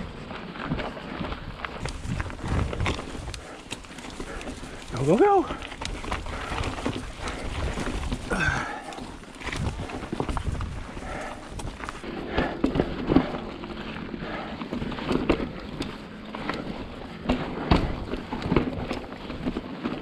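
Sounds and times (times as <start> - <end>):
tyre and wind rumble: 0.0 - 20.0
bike knocks and rattles: 0.4 - 20.0.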